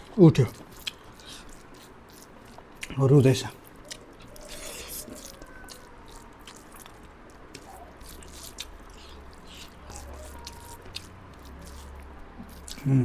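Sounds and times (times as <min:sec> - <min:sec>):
person chewing food: 0:00.0 - 0:12.9.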